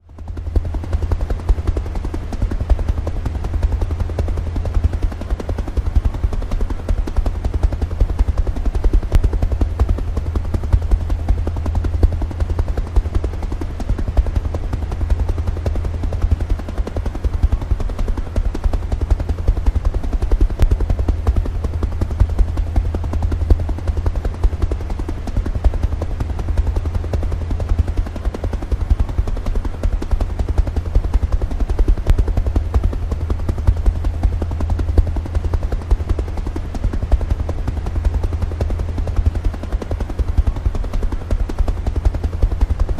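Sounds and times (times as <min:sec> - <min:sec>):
helicopter rotor thudding: 0:00.1 - 0:42.9.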